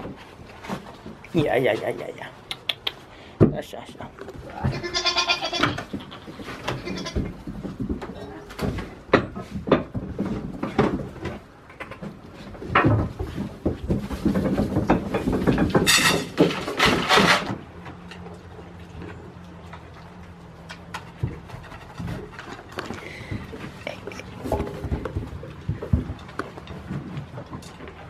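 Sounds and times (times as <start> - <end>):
goats knocking and scuffing: 0.0 - 28.0.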